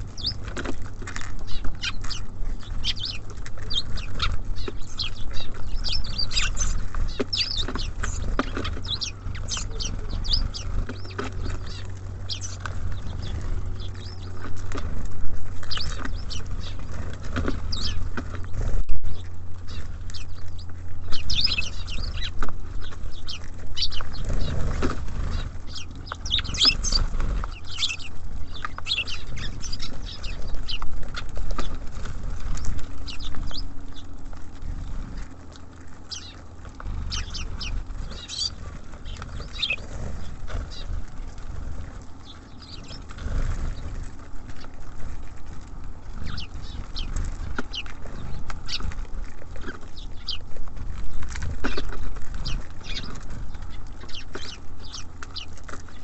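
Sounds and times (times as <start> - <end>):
low rumble: 0.0 - 55.7
small birds chirping: 0.0 - 56.0.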